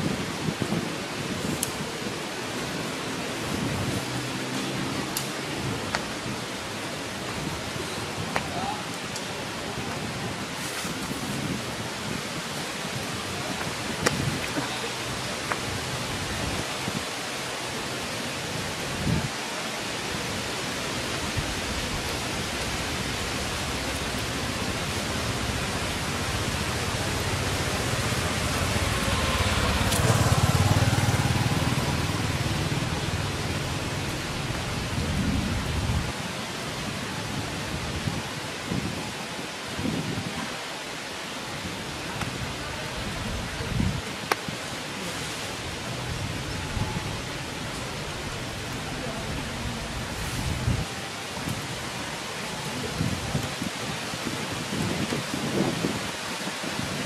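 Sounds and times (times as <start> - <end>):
rain on foliage: 0.0 - 57.0.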